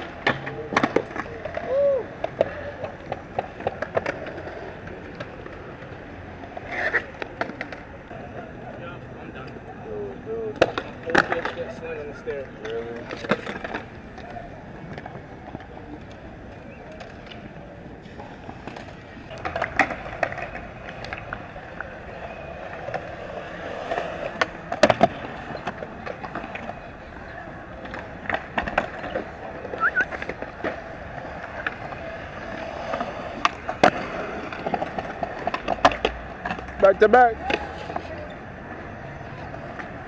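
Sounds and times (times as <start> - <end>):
skateboard striking the ground: 0.0 - 8.6, 10.4 - 38.3
skateboard wheels rolling: 0.0 - 40.0.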